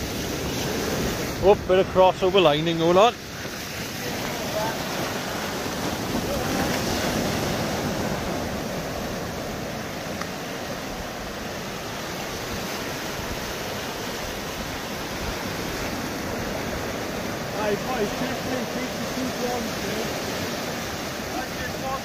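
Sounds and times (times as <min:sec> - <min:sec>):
sea surf breaking on rocks: 0:00.0 - 0:22.0.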